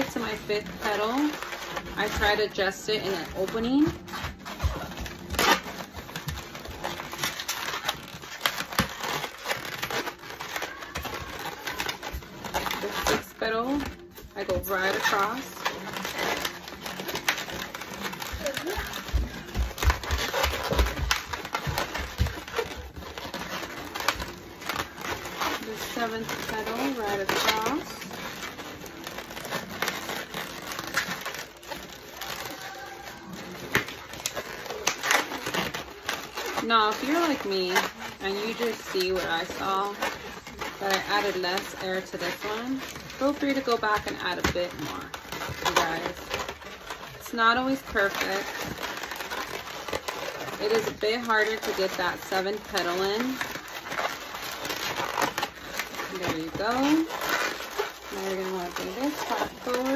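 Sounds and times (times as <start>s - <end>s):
balloon rubbing and squeaking: 0.0s - 59.9s.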